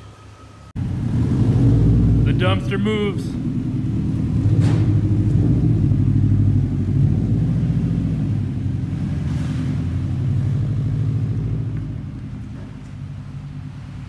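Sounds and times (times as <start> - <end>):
car engine rumbling: 0.6 - 14.0.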